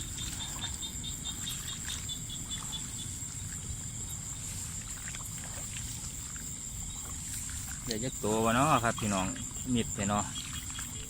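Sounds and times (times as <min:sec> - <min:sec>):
insect high-pitched trill: 0:00.0 - 0:11.0
insect rapid chirping: 0:00.0 - 0:11.0.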